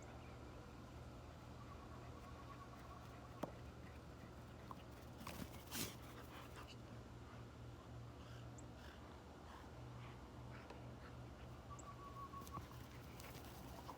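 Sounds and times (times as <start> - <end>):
faint low hum: 0.0 - 13.9.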